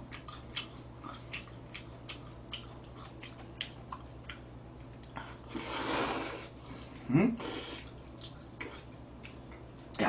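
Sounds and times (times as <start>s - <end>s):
man chewing: 0.0s - 9.9s
faint low hum: 0.0s - 10.0s.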